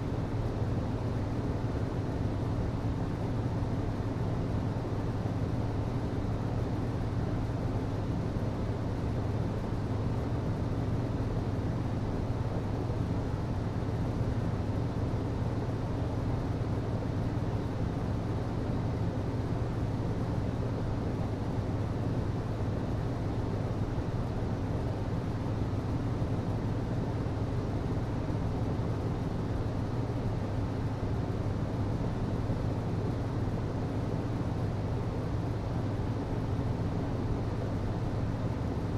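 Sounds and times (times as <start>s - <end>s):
low hvac hum: 0.0s - 38.9s.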